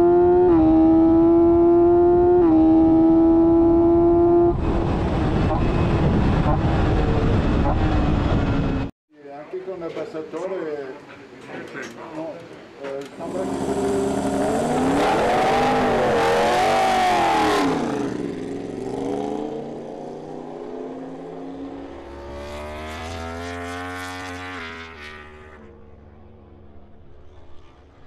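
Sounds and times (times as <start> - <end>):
motorcycle engine revving: 0.0 - 8.9, 13.2 - 28.0.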